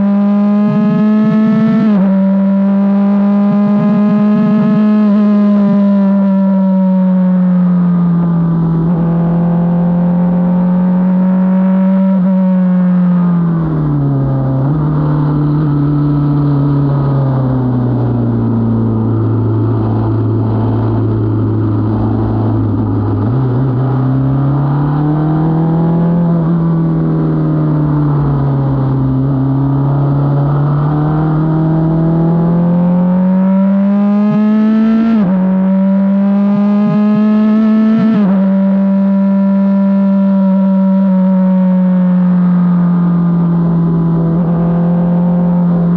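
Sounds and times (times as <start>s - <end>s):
racing car engine: 0.0s - 45.9s.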